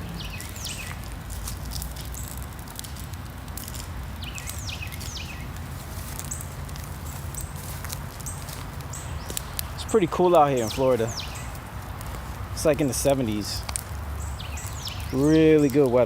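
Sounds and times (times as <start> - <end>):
burning branches crackling: 0.0 - 16.0.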